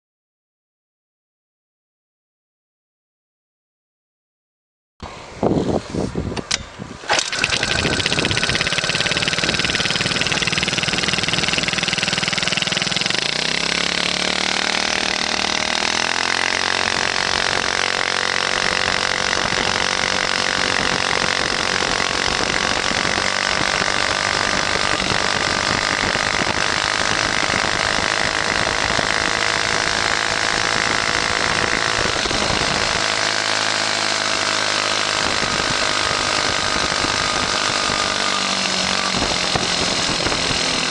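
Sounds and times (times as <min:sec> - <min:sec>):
scooter engine starting and running: 0:06.4 - 0:40.9.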